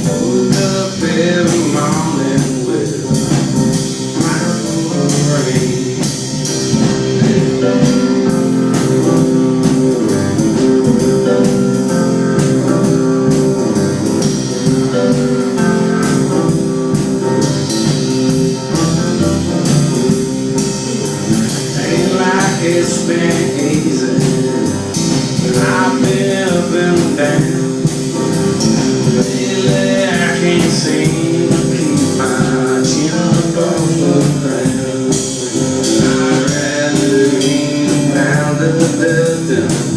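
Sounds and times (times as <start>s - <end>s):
man singing: 0.0s - 9.9s, 17.4s - 39.9s
live blues-rock band: 0.0s - 39.9s.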